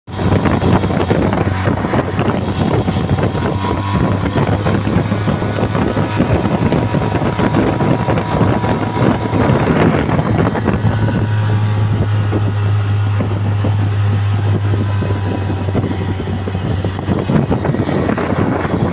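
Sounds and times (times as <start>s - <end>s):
outboard motor droning: 0.1s - 18.9s
rush of wind and water: 0.1s - 18.9s.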